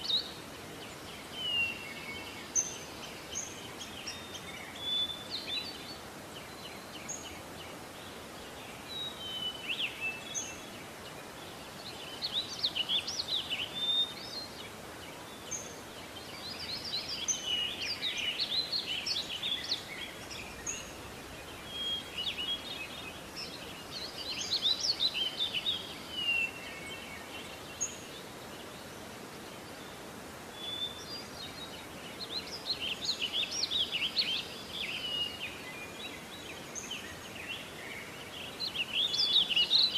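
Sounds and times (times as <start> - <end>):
songbirds chirping and whistling: 0.0 - 39.9
steady hiss: 0.0 - 39.9.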